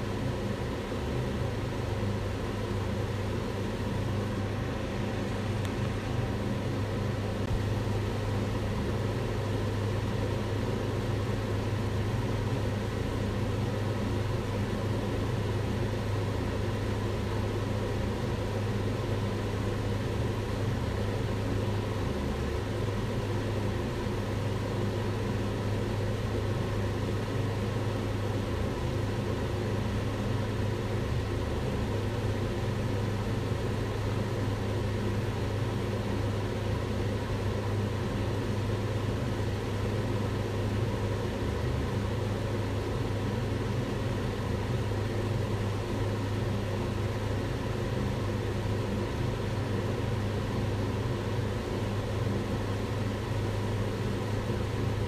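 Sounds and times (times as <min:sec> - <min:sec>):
range hood fan running: 0:00.0 - 0:55.0.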